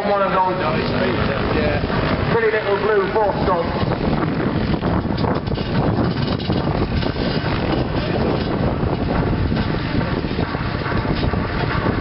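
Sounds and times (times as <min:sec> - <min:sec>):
motorcycle engines running: 0:00.0 - 0:12.0
wind buffeting microphone: 0:00.0 - 0:12.0.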